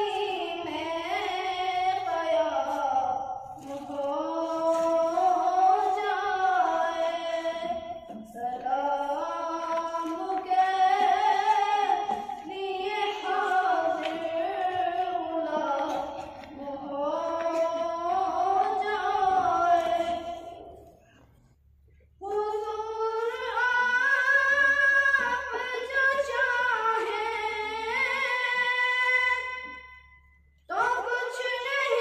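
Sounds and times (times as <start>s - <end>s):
boy singing into a microphone: 0.0s - 21.0s, 22.2s - 30.1s, 30.7s - 32.0s.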